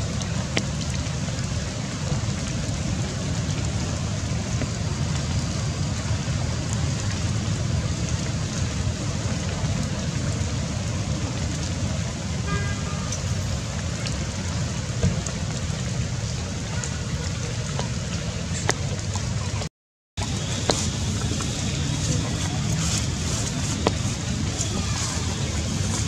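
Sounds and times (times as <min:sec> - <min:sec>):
steady rushing outdoor noise: 0:00.0 - 0:26.0.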